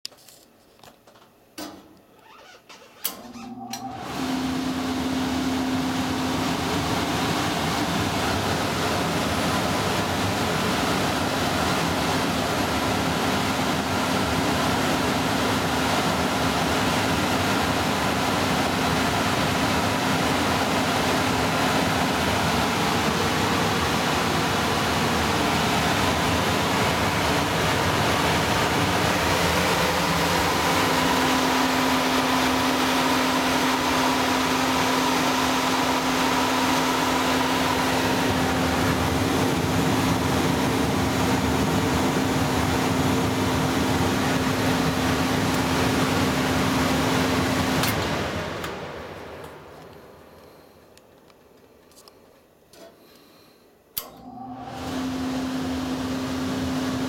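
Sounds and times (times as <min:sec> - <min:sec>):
furnace burner and blower rushing: 0:03.0 - 0:50.9, 0:54.0 - 0:57.0.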